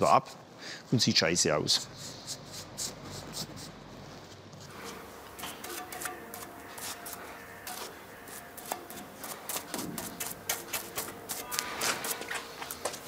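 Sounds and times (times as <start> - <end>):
bristle brush scratching on metal: 1.6 - 13.0.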